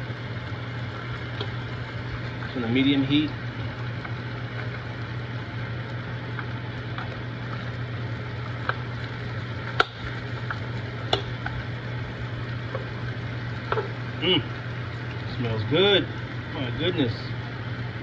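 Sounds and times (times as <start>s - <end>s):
fish sizzling in butter: 0.0s - 18.0s
low hum: 0.0s - 18.0s.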